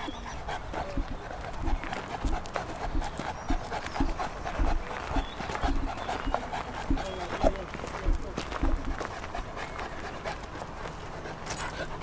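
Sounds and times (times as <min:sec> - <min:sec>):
dog panting: 0:00.0 - 0:12.0
footsteps on gravel: 0:00.9 - 0:11.9.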